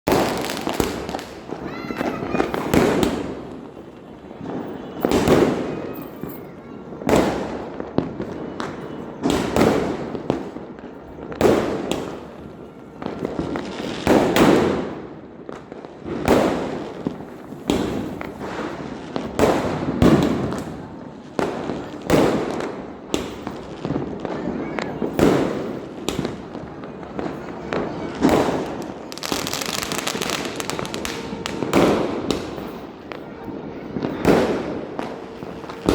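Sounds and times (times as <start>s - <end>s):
firecracker bangs with echo: 0.1s - 35.9s.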